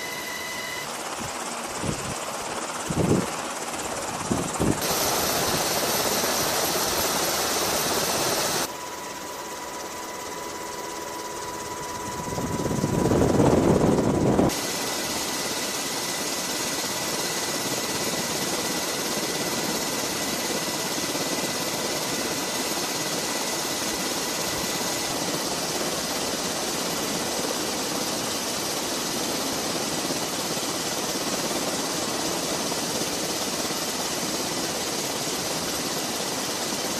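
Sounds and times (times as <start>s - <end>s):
thin steady whine: 0.0s - 36.7s
helicopter rushing noise: 0.0s - 36.9s.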